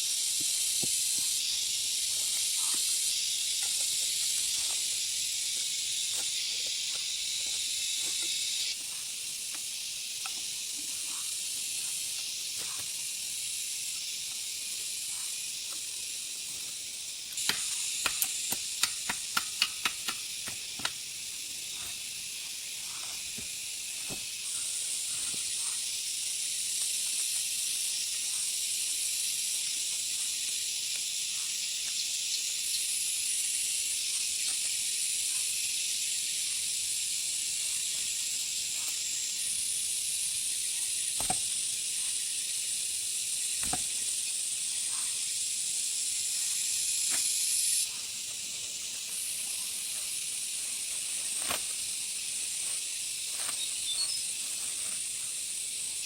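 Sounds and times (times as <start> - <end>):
insect chorus hiss: 0.0 - 56.0.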